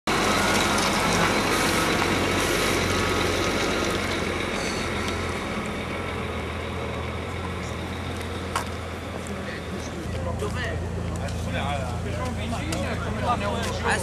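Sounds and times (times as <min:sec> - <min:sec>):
diesel lorry engine idling: 0:00.1 - 0:14.0.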